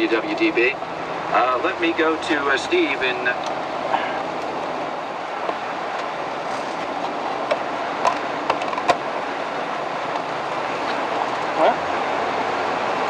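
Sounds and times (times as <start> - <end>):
road and tyre noise inside vehicle: 0.0 - 13.0.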